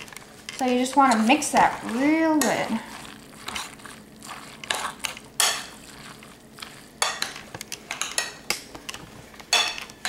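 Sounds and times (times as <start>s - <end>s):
wet food mixing: 0.0s - 10.0s.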